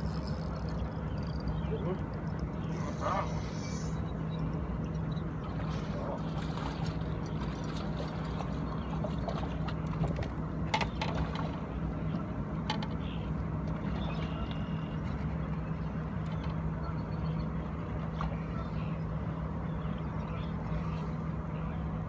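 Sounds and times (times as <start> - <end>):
boat motor humming: 0.0 - 22.0
water around hull: 0.0 - 22.0.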